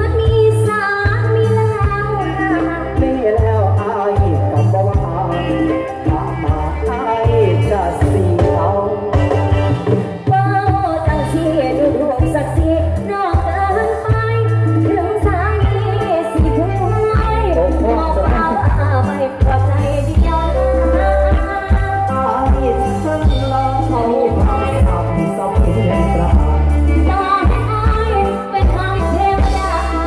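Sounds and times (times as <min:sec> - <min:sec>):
drum kit: 0:00.0 - 0:30.0
heavy bass: 0:00.0 - 0:30.0
keyboard: 0:00.0 - 0:30.0
person singing: 0:00.0 - 0:30.0.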